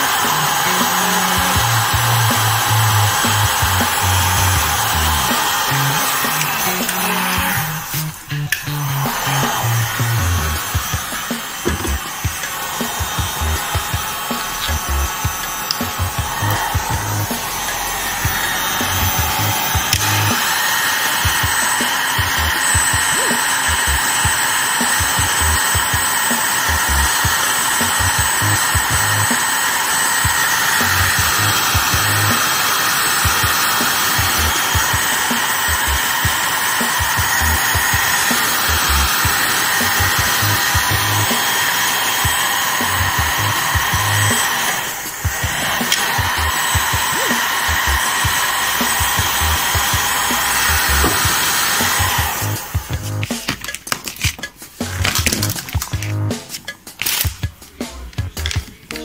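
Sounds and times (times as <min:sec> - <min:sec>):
heat gun blowing hot air: 0:00.0 - 0:57.5.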